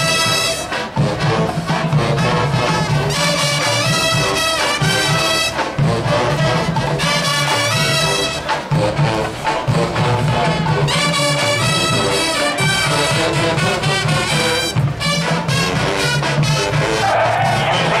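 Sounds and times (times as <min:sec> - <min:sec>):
marching band brass tune: 0:00.0 - 0:18.0
marching bass drums: 0:00.0 - 0:18.0.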